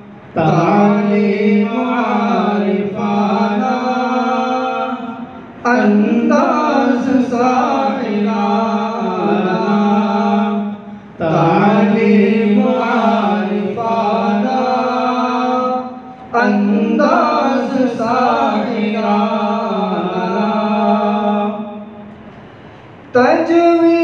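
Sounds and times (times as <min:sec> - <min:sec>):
person singing unaccompanied: 0:00.4 - 0:10.6, 0:11.2 - 0:21.8.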